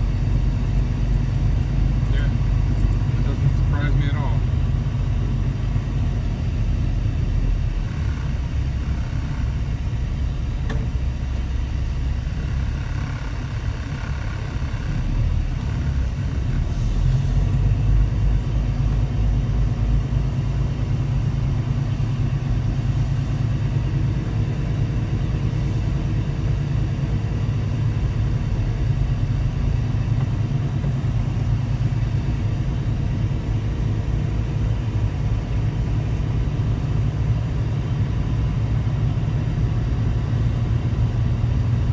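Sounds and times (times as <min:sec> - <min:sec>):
diesel truck engine drone: 0:00.0 - 0:41.9.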